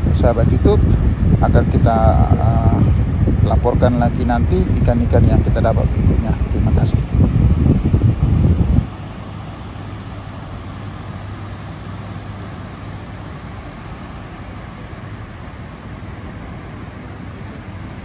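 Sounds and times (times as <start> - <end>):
low hum: 0.0 - 18.0
ocean surf breaking: 0.0 - 18.0.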